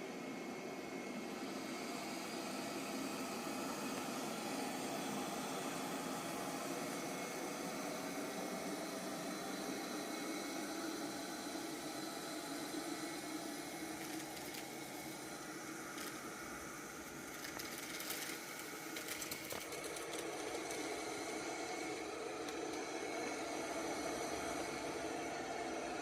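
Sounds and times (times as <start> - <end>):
robot vacuum humming: 0.0 - 26.0.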